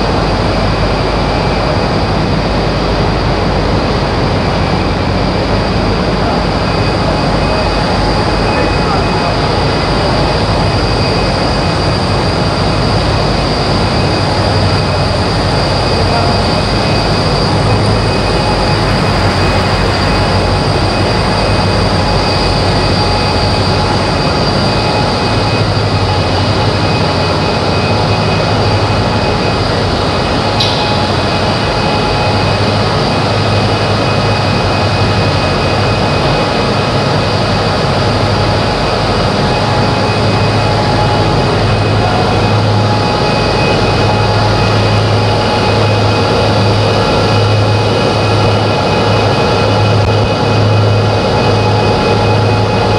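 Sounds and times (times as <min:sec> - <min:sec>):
machinery humming: 0:00.0 - 0:52.9.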